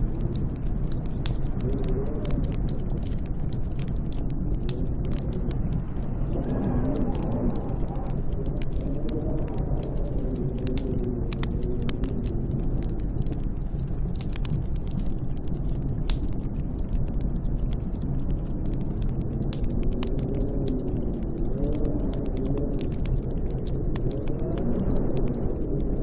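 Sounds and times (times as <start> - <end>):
faint crackles: 0.0 - 26.0
wind howling: 0.0 - 26.0.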